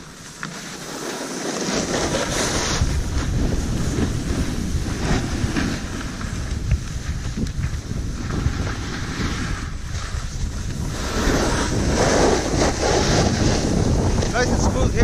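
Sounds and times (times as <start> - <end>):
snowboard scraping over snow: 0.0 - 15.0
wind buffeting microphone: 1.8 - 15.0.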